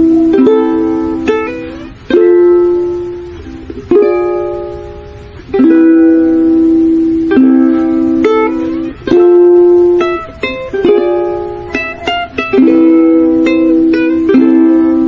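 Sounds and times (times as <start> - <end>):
light instrumental music: 0.0 - 15.0.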